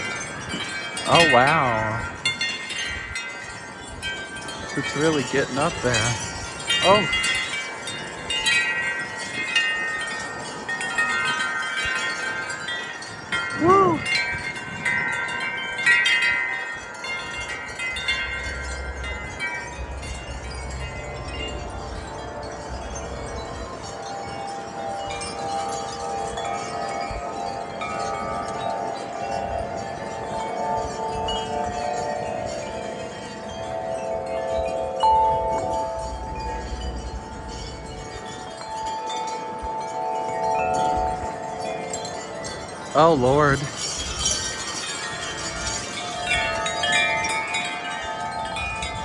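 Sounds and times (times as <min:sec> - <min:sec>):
metal wind chimes ringing: 0:00.0 - 0:49.0
wind rumble on microphone: 0:00.0 - 0:49.0.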